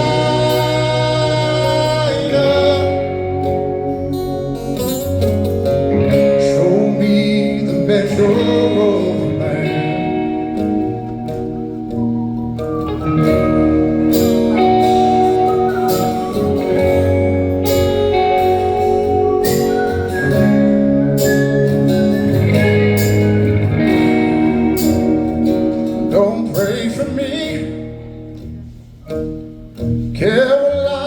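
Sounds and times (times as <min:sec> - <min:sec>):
bass guitar: 0:00.0 - 0:31.0
drums: 0:00.0 - 0:31.0
electric guitar: 0:00.0 - 0:31.0.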